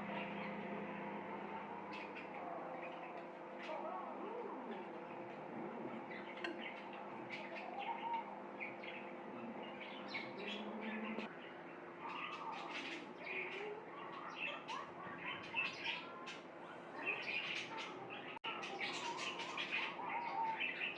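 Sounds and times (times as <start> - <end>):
steady low hum: 0.0 - 18.6
small birds chirping: 0.0 - 20.9.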